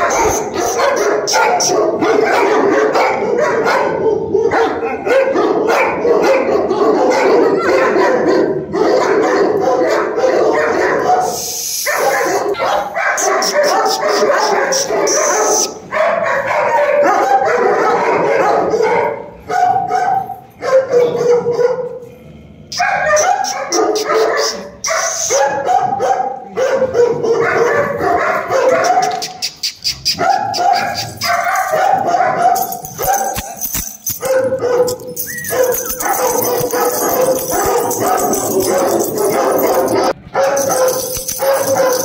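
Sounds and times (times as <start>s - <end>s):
large dogs barking: 0.0s - 42.0s.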